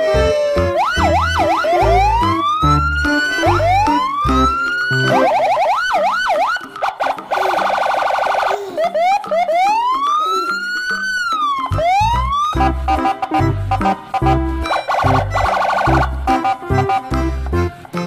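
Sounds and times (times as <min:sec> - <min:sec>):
light music beat: 0:00.0 - 0:07.6, 0:08.6 - 0:18.0
electronic ambulance siren: 0:00.0 - 0:17.1.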